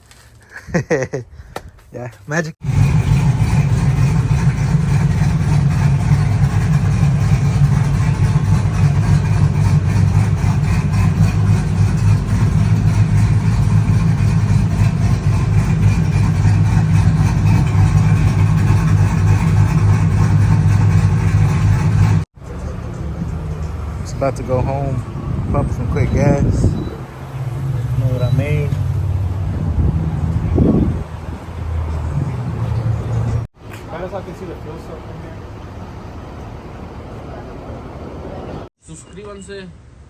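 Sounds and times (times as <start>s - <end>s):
truck engine rumbling: 0.0s - 38.7s.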